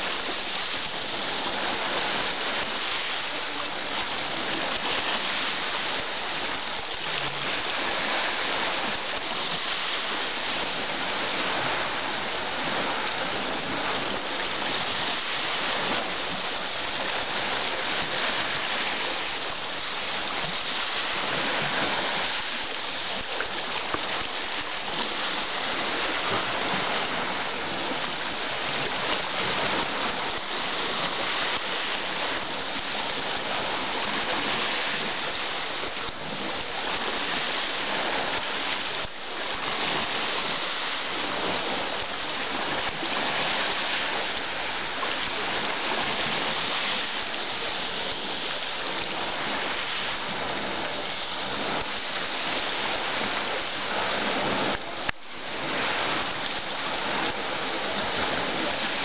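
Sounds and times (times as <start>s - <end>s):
surf washing over stony shore: 0.0s - 59.0s.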